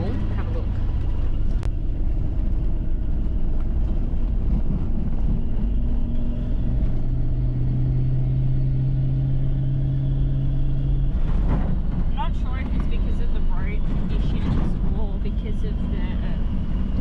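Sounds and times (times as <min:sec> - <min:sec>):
engine drone: 0:00.0 - 0:17.0
tyres rumbling on dirt road: 0:00.0 - 0:17.0.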